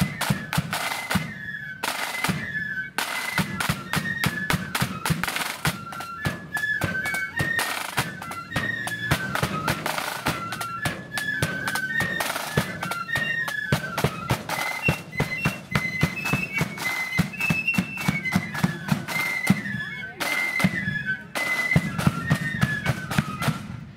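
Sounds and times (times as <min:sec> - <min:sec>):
flutes playing quick melody: 0:00.0 - 0:23.9.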